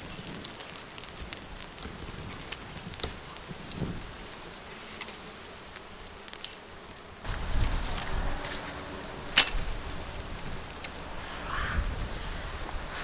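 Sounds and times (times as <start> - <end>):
branches clicking and rustling: 0.0 - 13.0
honeybees buzzing: 0.0 - 13.0.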